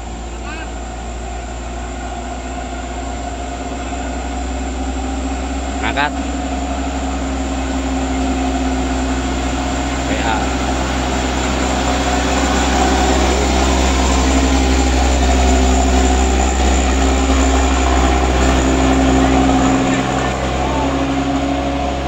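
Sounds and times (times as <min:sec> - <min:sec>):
diesel truck engine drone: 0:00.0 - 0:22.0.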